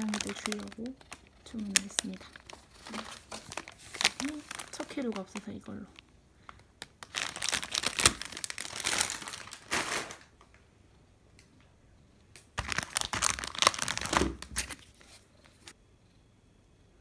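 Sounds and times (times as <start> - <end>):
plastic packaging crinkling: 0.0 - 10.5, 12.6 - 15.7.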